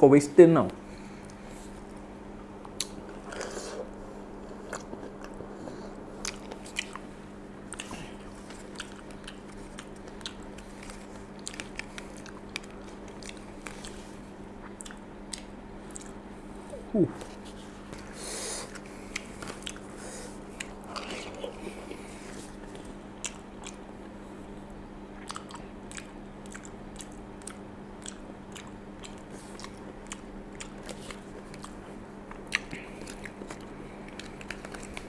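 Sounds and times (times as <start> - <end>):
steady low hum: 0.0 - 35.0
person chewing food: 1.2 - 24.5, 25.1 - 35.0.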